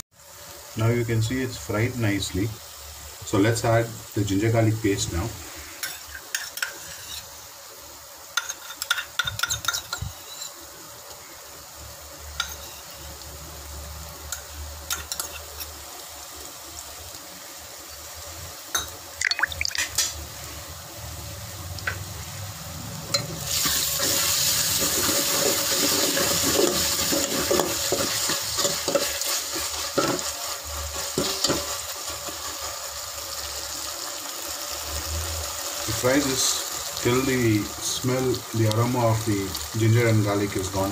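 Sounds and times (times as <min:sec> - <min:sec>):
loud sizzle with crackling: 0:00.0 - 0:40.9
onions frying in oil: 0:00.1 - 0:40.9.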